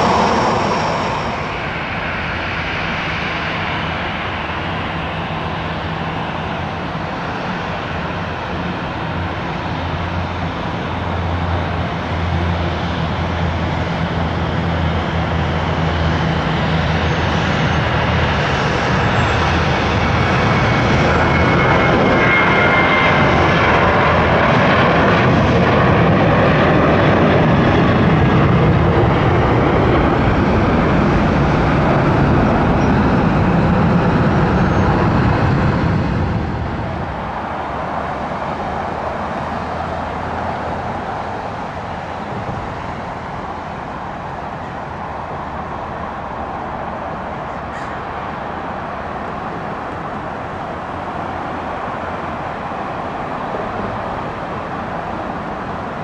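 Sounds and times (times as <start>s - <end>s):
jet engines taking off: 0.0s - 56.0s.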